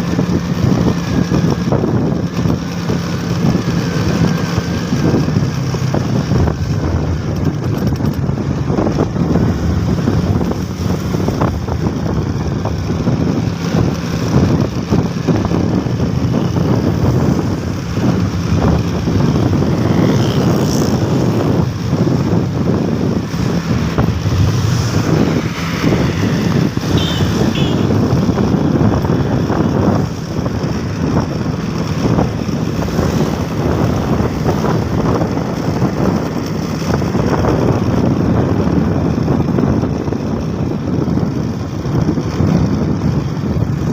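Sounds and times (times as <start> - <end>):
vehicle engine hum: 0.0 - 43.9
wind buffeting microphone: 0.0 - 43.9.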